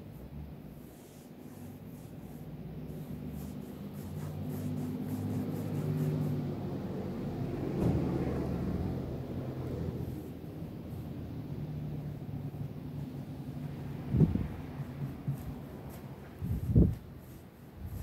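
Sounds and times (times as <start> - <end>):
vehicle engine humming: 1.9 - 16.9.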